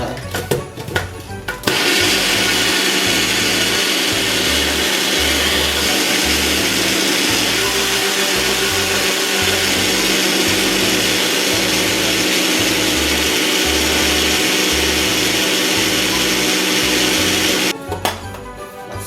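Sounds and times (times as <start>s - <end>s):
blender running: 1.6s - 17.7s.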